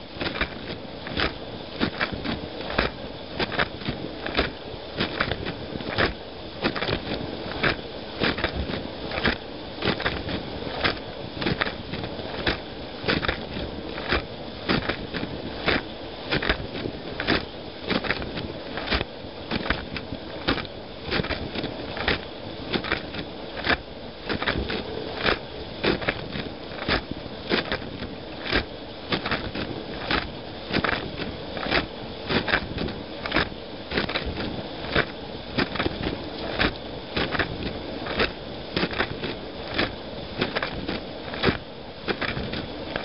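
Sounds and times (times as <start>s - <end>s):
water jets splashing: 0.0s - 43.0s.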